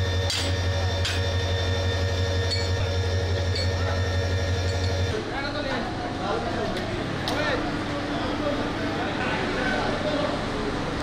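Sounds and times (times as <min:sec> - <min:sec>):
diesel train humming: 0:00.0 - 0:11.0.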